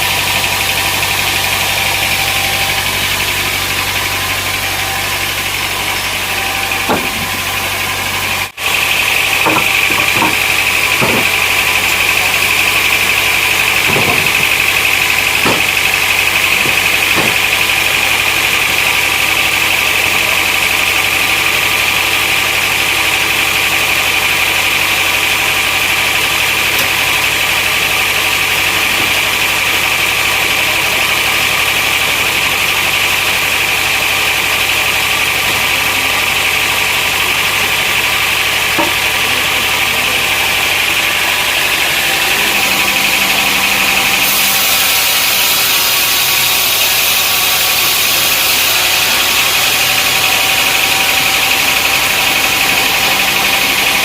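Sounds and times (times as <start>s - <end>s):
high machine whine: 0.0s - 54.0s
sawmill machinery drone: 0.0s - 54.0s.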